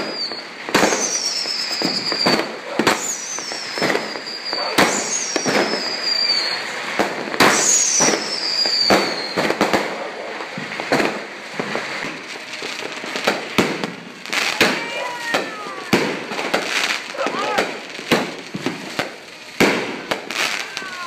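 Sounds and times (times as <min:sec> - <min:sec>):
high falling firework whistle: 0:00.0 - 0:09.7, 0:13.1 - 0:21.0
fireworks bangs: 0:00.0 - 0:21.0.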